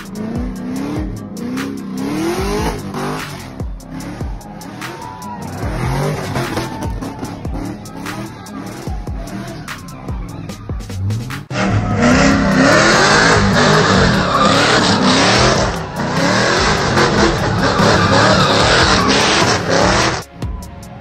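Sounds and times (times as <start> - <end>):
car engine revving hard: 0.0 - 4.9, 5.6 - 9.5, 11.5 - 20.2
tyres screeching: 0.0 - 20.2.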